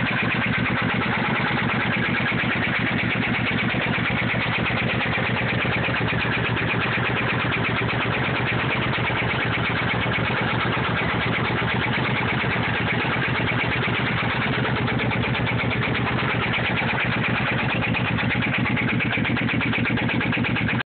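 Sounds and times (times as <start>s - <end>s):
fast even engine ticking: 0.0s - 20.8s
motorcycle engine running: 0.0s - 20.8s.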